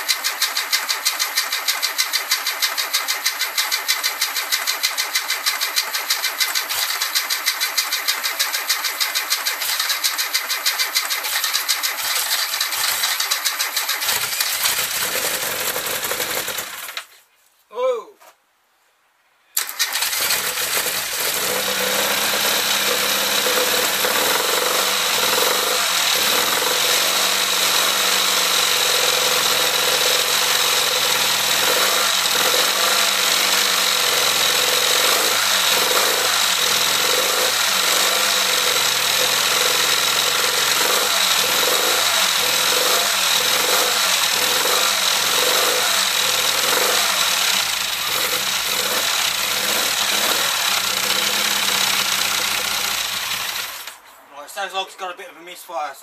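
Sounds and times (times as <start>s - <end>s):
car engine idling with misfire: 0.0s - 16.9s, 19.6s - 54.0s.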